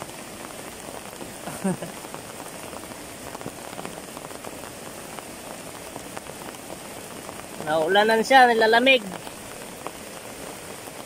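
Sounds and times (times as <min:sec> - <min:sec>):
rain falling on water and leaves: 0:00.0 - 0:11.0.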